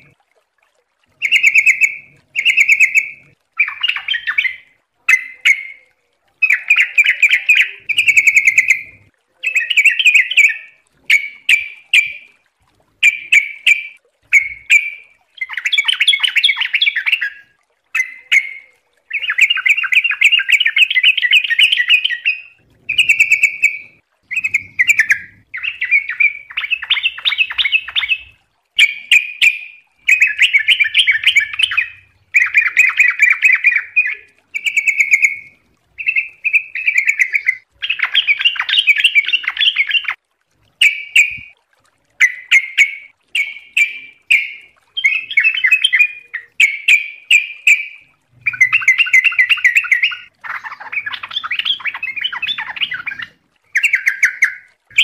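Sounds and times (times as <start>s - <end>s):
bulbul singing: 1.2s - 12.4s, 13.0s - 40.2s, 40.8s - 41.6s, 42.2s - 55.0s.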